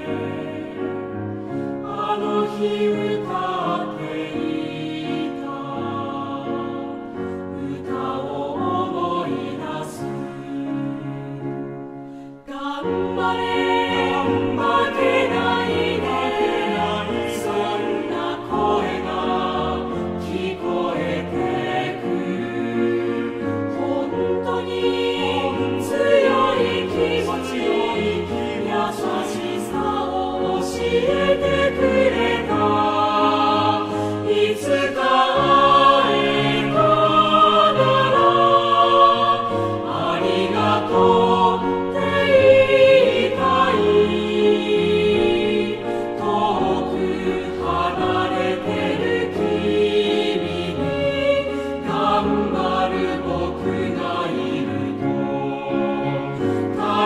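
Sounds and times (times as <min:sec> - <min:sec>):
choir singing with accompaniment: 0:00.0 - 0:57.0.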